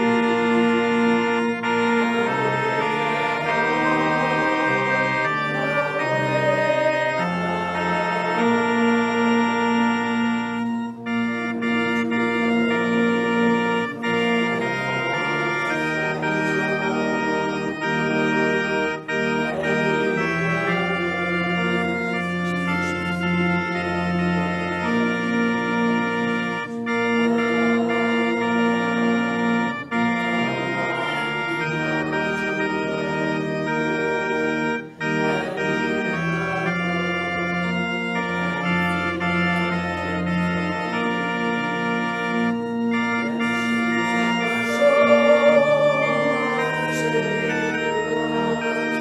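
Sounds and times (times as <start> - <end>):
organ playing sustained chords: 0.0 - 49.0.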